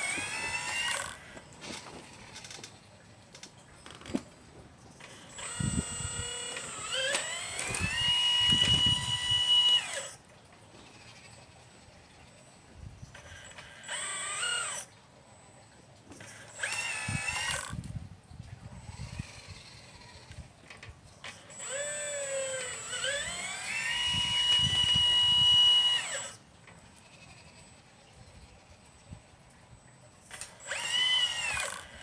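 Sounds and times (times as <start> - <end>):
model excavator motor whining: 0.0 - 4.2, 4.9 - 32.0.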